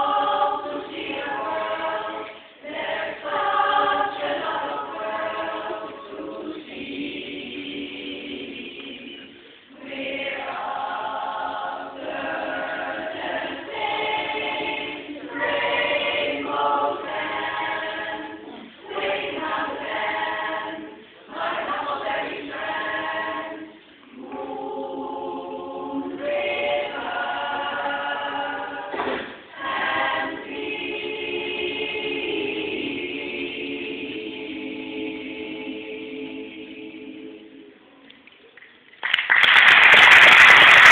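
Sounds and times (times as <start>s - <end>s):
women's chorus singing a cappella: 0.0s - 38.0s.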